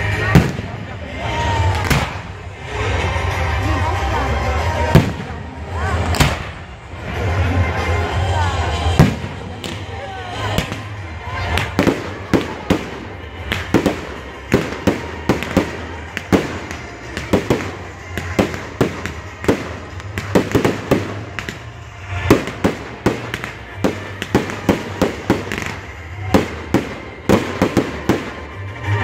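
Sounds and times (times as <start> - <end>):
firework bangs: 0.0 - 2.6, 4.6 - 6.9, 8.7 - 29.0.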